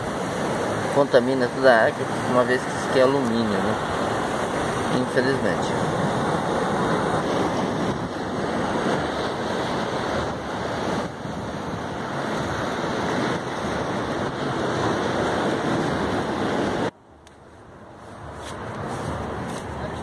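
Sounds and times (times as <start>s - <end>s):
surf washing over rocks: 0.0s - 17.0s
wind on microphone: 0.0s - 20.0s.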